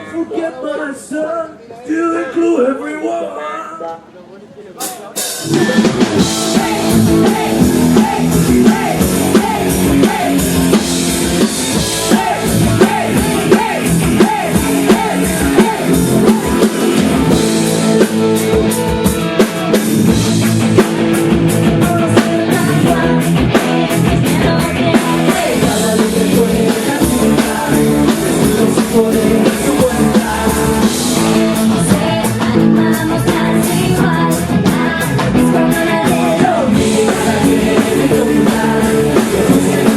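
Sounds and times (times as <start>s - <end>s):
rock band playing live: 4.8s - 39.9s
person singing: 5.4s - 19.8s, 21.5s - 39.9s.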